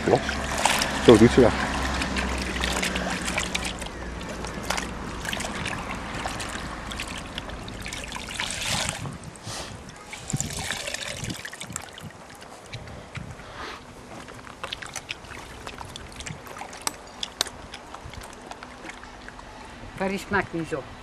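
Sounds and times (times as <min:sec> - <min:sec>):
wet cloth washed in bucket: 0:00.0 - 0:13.1, 0:13.8 - 0:19.7
water trickling and splashing: 0:00.0 - 0:20.8.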